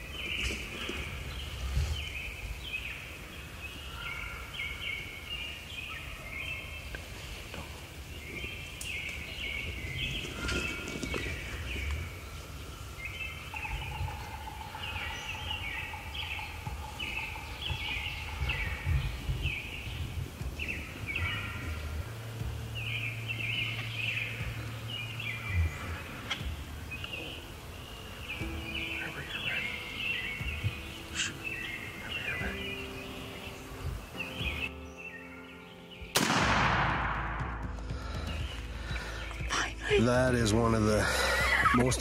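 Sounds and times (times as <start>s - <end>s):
turkeys calling: 0.0s - 34.8s, 37.9s - 42.0s.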